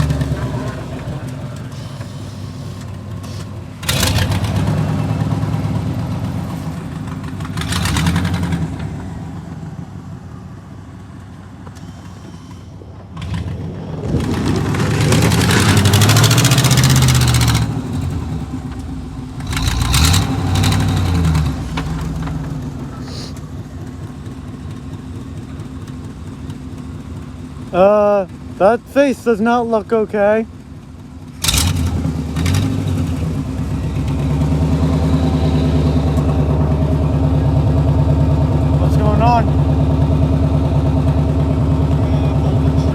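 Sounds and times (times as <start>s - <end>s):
vehicle engine revving: 0.0s - 30.3s, 31.2s - 42.9s.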